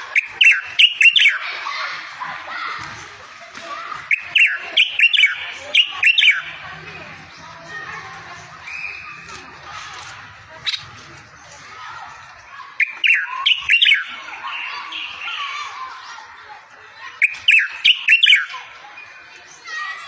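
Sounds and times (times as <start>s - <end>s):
songbird chirping: 0.0s - 1.8s, 3.2s - 20.0s
background bird twitter: 0.0s - 20.0s.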